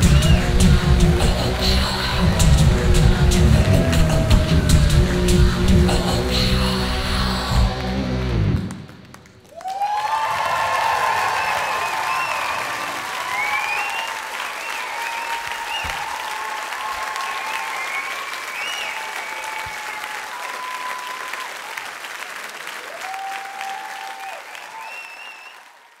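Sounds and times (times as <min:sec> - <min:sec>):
audience applauding: 0:00.0 - 0:06.4, 0:07.6 - 0:26.0.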